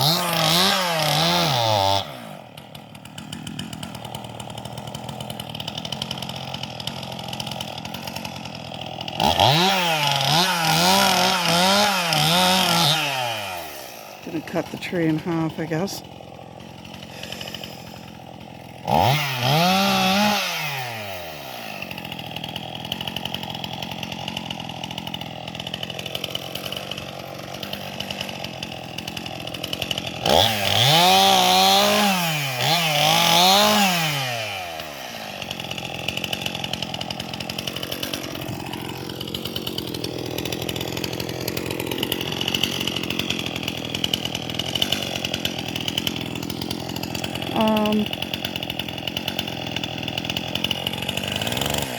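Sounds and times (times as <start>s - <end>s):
chainsaw idling and revving: 0.0s - 51.9s.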